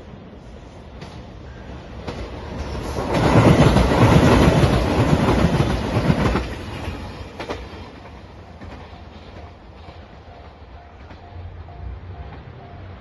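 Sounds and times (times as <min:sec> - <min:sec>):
diesel train passing: 0:00.0 - 0:13.0.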